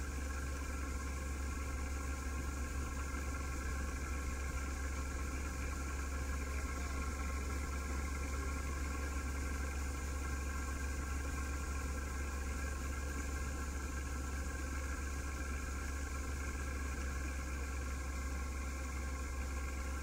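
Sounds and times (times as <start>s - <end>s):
farm machine engine running: 0.0s - 20.0s.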